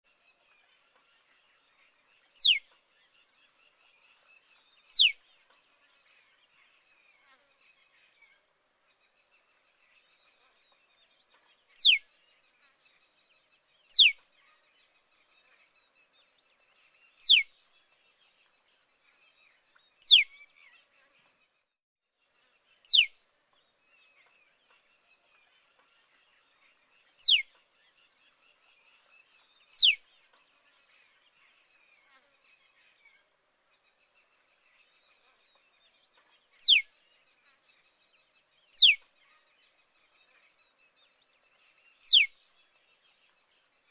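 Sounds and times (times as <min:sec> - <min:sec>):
soft bird twittering: 0:00.4 - 0:21.4, 0:22.3 - 0:43.9.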